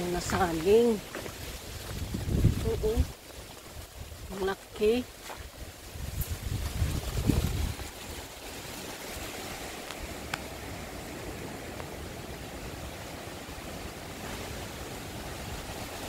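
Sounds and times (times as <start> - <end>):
strong wind through trees: 0.0 - 16.0.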